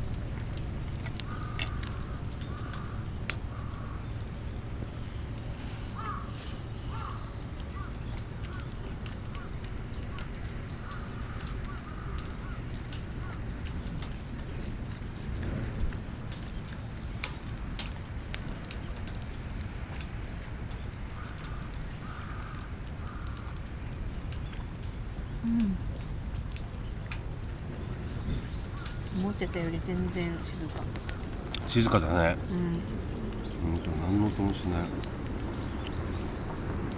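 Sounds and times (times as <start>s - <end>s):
campfire crackling and popping: 0.0s - 36.9s
low outdoor rumble: 0.0s - 36.9s.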